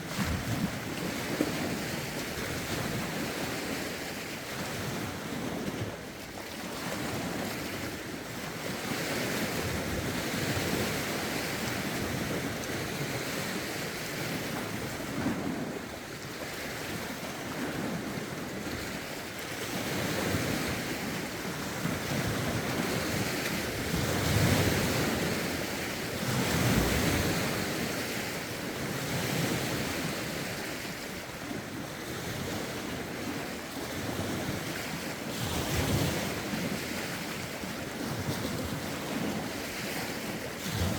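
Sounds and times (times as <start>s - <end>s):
wind buffeting microphone: 0.0s - 6.0s, 6.7s - 40.9s
lake waves washing onto shore: 0.0s - 40.9s.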